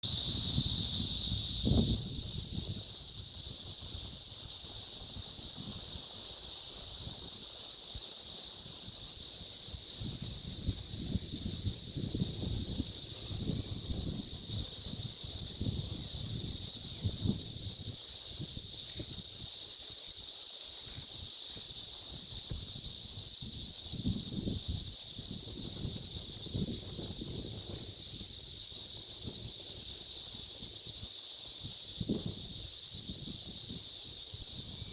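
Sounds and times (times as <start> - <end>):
cicadas buzzing: 0.0 - 34.9.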